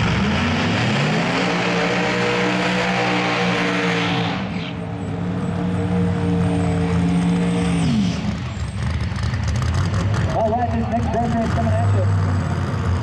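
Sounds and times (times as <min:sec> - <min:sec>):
drag racing car engine full throttle: 0:00.0 - 0:13.0.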